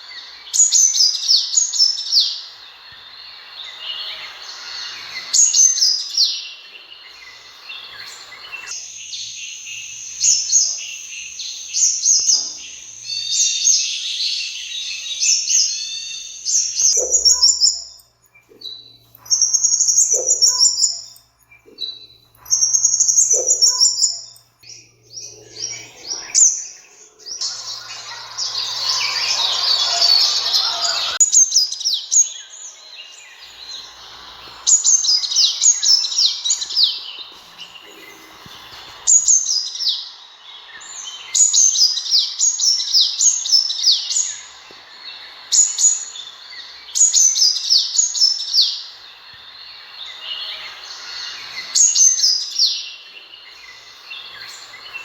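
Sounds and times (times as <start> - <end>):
sunbirds chirping and twittering: 0.0 - 55.0.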